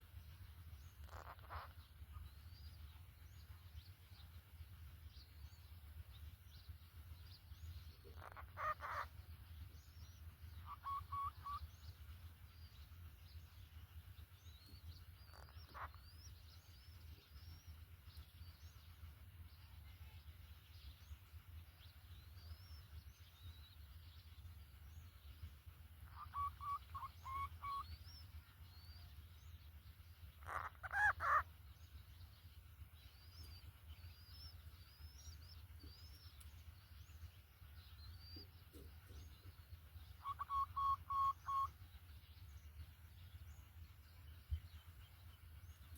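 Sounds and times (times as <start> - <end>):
distant birds chirping: 0.0 - 45.9
steady low rumble: 0.0 - 45.9.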